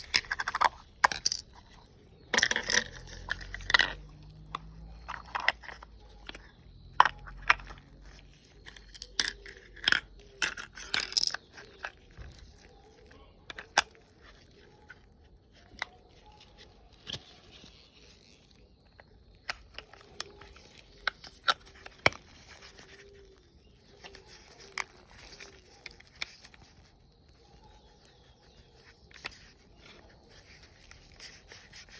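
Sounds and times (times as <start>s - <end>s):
crinkles and scrapes: 0.0s - 31.9s.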